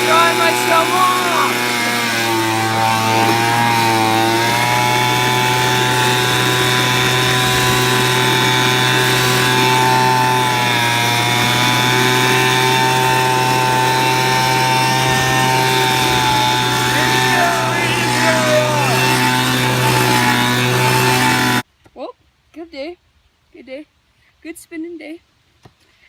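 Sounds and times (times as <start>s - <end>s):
motorized blower running: 0.0s - 21.6s.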